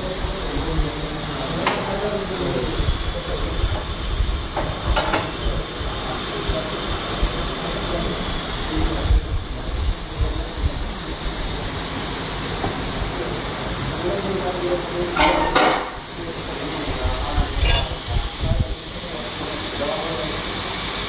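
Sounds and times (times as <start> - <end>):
steady hissing: 0.0 - 21.0.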